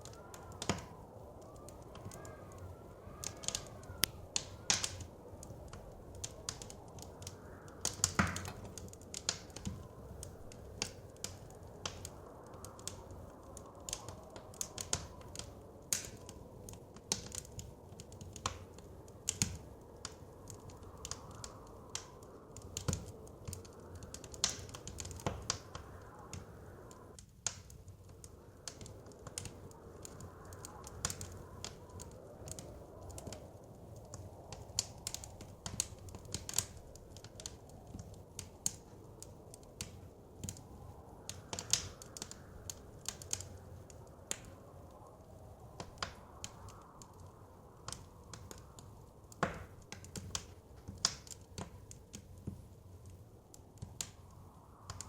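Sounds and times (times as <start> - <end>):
blizzard wind whooshing: 0.0 - 55.0
wood fire crackling: 0.0 - 55.0.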